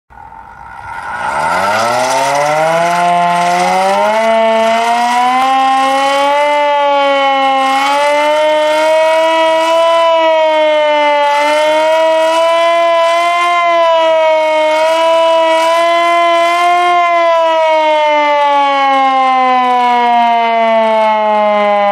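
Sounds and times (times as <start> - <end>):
electric siren winding up: 0.1 - 21.9.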